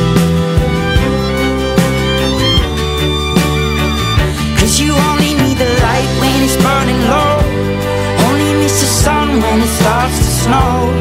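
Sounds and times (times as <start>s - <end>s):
instrumental acoustic pop music: 0.0s - 11.0s.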